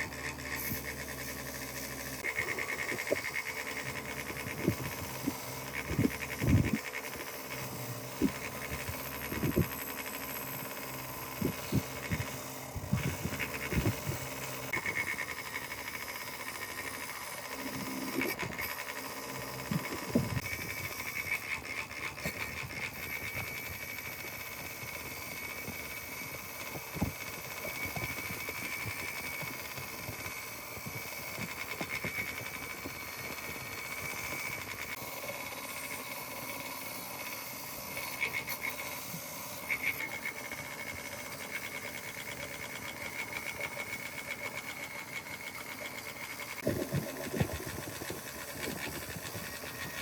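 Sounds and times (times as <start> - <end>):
machine hum with buzzing: 0.0 - 50.0.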